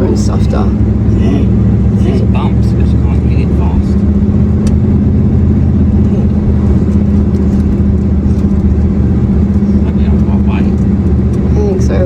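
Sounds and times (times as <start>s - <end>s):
road rumble: 0.0s - 12.0s
vehicle engine drone: 0.0s - 12.0s.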